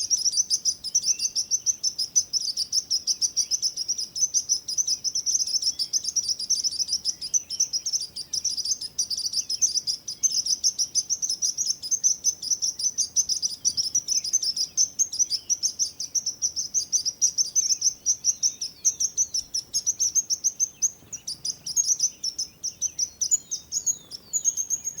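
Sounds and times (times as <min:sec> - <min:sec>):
sparrows chirping: 0:00.0 - 0:25.0.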